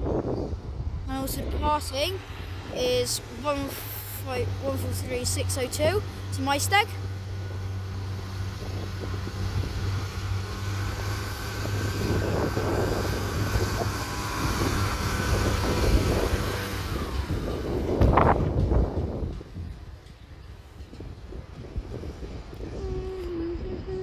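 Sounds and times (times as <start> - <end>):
diesel train engine drone: 0.0 - 24.0
train wheels rumbling on rails: 0.0 - 24.0.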